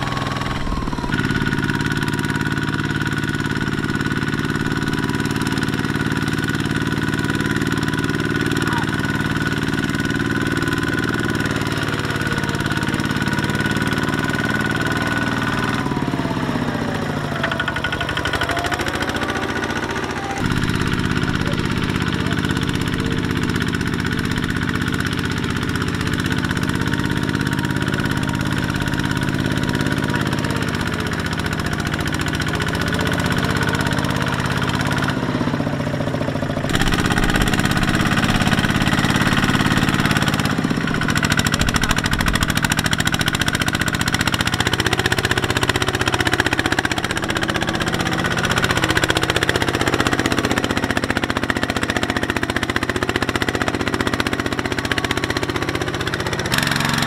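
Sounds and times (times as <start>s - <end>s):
diesel tractor engine labouring: 0.0s - 57.0s.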